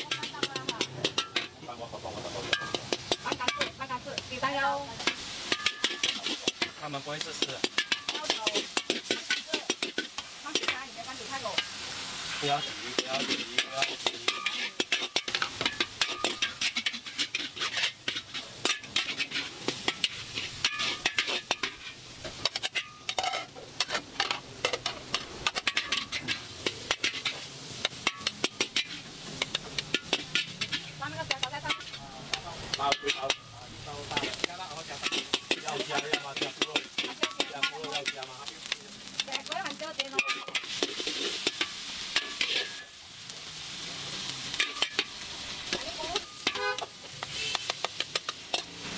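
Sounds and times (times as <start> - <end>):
food sizzling: 0.0 - 48.9
metal ladle scraping a wok: 0.0 - 48.9.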